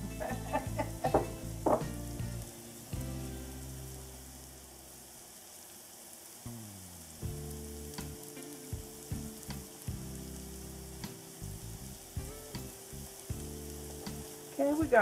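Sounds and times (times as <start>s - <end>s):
mushrooms sizzling in a skillet: 0.0s - 15.0s.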